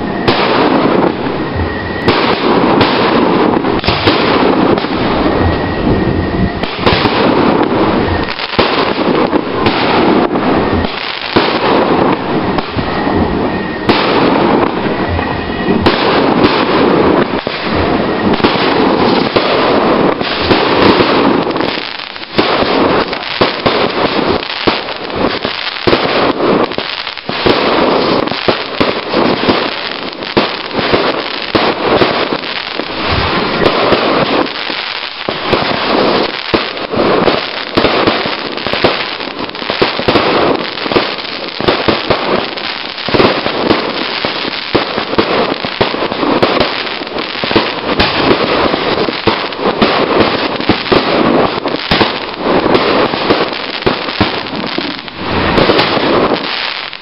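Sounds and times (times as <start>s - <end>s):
fireworks bangs and pops: 0.0s - 57.0s.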